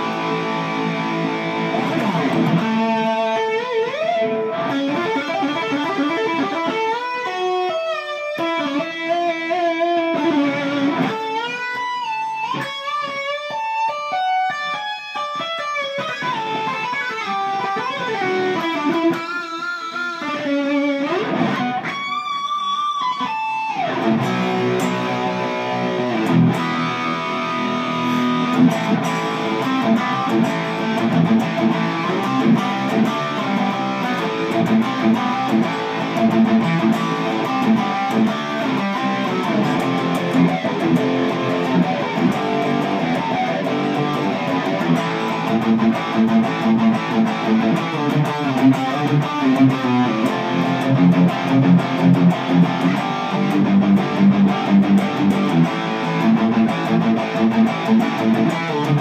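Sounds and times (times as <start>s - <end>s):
electric guitar riffing: 0.0s - 59.0s.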